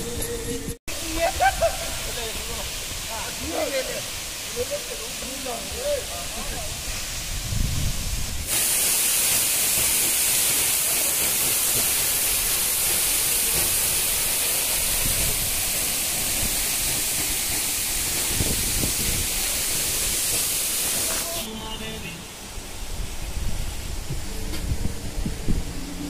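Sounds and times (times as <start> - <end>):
waterfall pouring onto rocks: 0.9 - 22.1.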